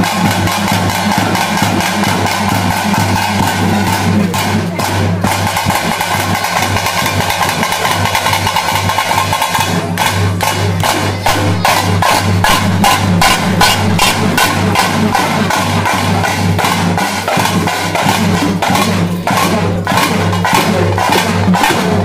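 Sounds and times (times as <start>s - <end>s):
frame drums beaten with sticks: 0.0s - 22.0s.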